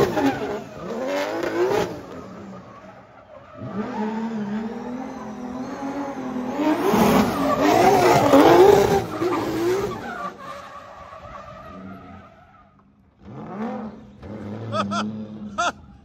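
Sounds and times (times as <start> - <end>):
car engine revving: 0.0 - 10.9, 11.5 - 16.0.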